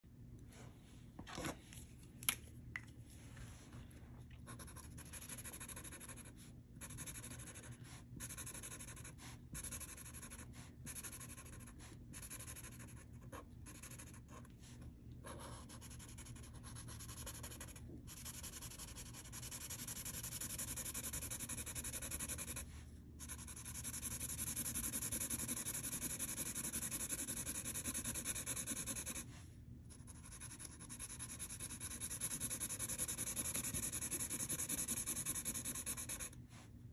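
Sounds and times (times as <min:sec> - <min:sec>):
marker scratching on paper: 0:04.5 - 0:14.5, 0:15.3 - 0:29.3, 0:29.9 - 0:36.4.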